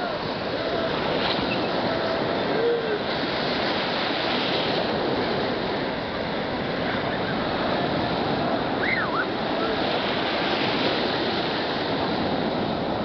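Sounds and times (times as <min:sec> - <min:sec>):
sea surf breaking: 0:00.0 - 0:13.0.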